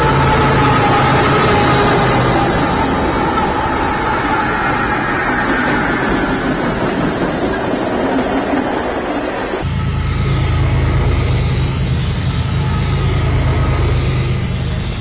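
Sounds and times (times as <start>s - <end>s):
diesel locomotives rumbling: 0.0s - 15.0s
wheels rushing on rails: 0.0s - 15.0s.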